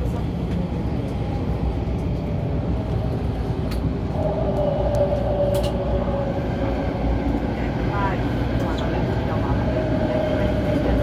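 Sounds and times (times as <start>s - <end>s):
passing train whine: 0.0s - 11.0s
train wheels rumbling on rails: 0.0s - 11.0s.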